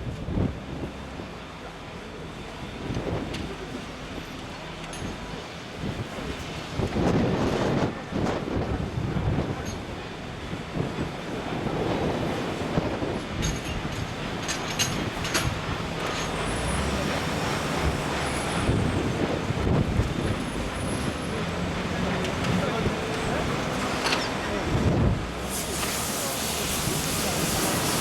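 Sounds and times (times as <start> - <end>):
heavy machinery rumbling: 0.0 - 28.0.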